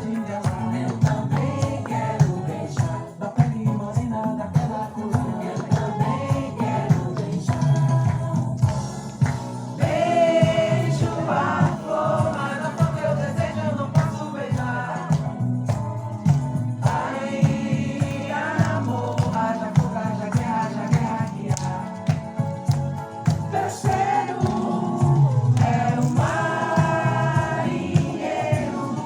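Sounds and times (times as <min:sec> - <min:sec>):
instrumental accompaniment: 0:00.0 - 0:29.0
people singing together: 0:00.0 - 0:29.0
steady percussive beat: 0:00.0 - 0:29.0.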